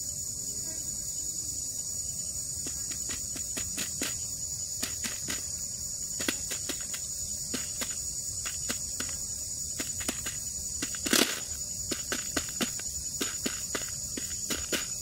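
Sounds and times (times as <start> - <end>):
high-pitched insect drone: 0.0 - 15.0
bird scuffling: 2.6 - 15.0.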